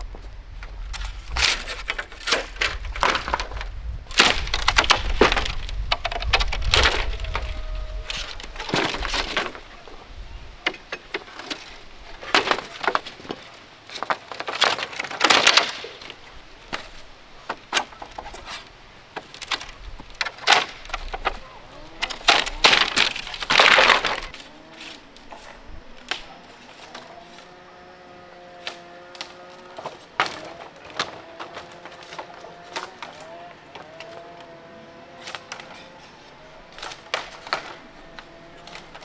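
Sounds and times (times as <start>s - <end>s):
wood cracking and snapping: 0.6s - 39.0s.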